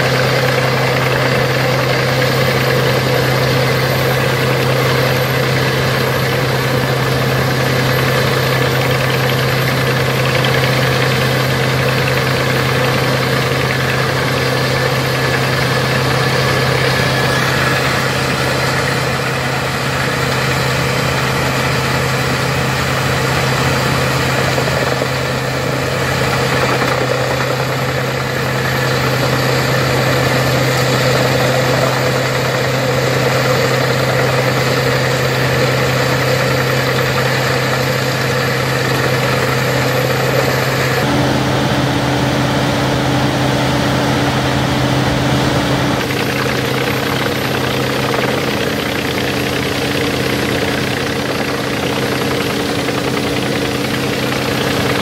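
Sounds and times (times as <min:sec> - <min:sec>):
wood chipper droning: 0:00.0 - 0:55.0.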